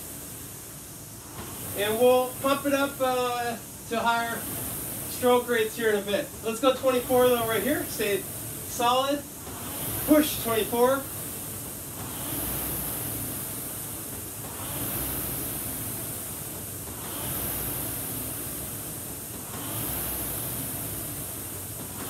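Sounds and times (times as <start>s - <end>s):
rowing machine flywheel whooshing: 0.0s - 22.0s.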